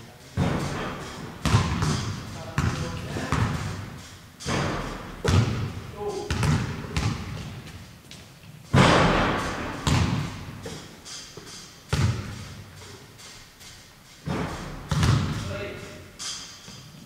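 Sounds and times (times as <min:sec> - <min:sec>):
heavy echoing thumps: 0:00.3 - 0:08.0, 0:08.7 - 0:16.8.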